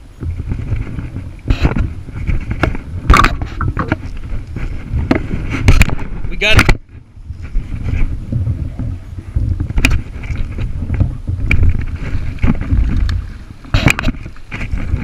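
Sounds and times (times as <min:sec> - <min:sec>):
water against kayak: 0:00.0 - 0:15.0
wind rumble on microphone: 0:00.0 - 0:15.0.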